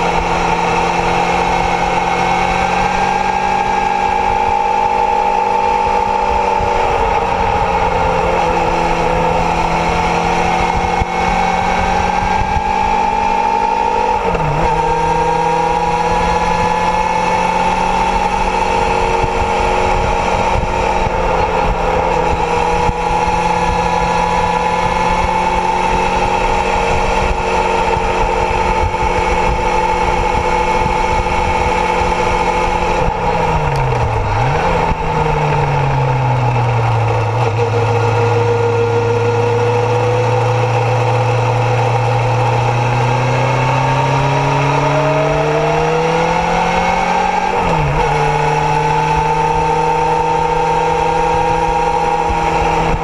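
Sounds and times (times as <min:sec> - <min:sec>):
motorcycle engine running: 0:00.0 - 0:53.0
wind noise rumbling: 0:00.0 - 0:53.0.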